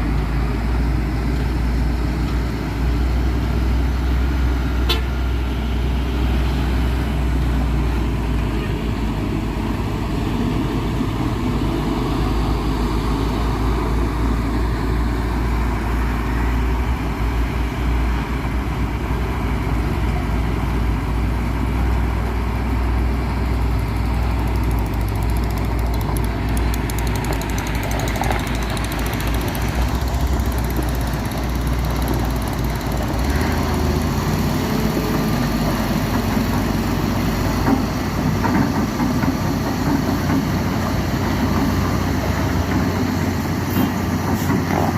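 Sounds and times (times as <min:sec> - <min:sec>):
heavy diesel engine rumbling: 0:00.0 - 0:44.9.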